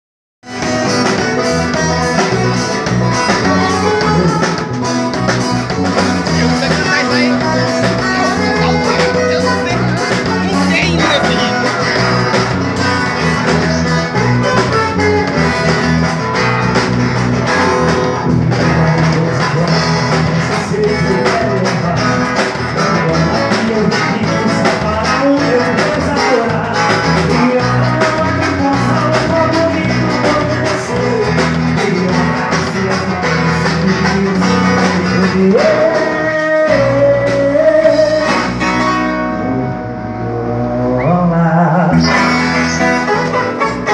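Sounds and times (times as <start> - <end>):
acoustic guitar picking: 0.8 - 41.2, 42.0 - 43.9.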